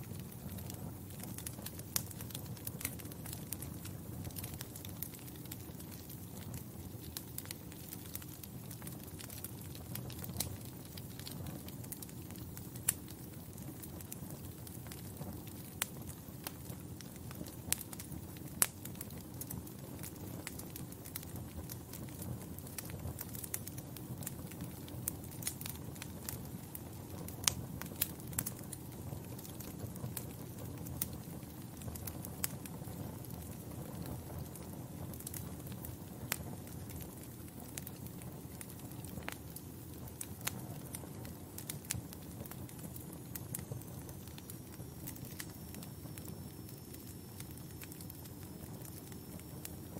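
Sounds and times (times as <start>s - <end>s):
fire pops and snaps: 0.0s - 49.9s
flame rushing: 0.0s - 49.9s.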